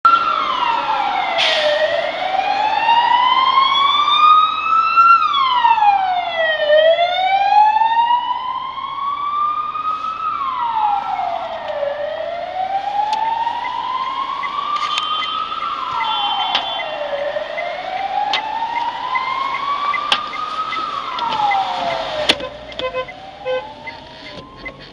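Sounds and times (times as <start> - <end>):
emergency siren wailing: 0.0 - 24.9
street traffic: 0.0 - 24.9.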